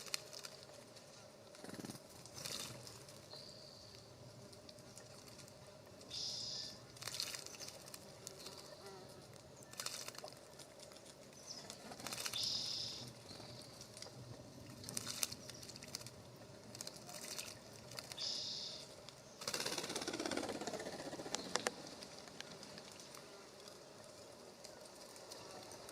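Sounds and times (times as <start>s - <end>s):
birds splashing in bird bath: 2.0s - 4.0s, 4.6s - 25.9s.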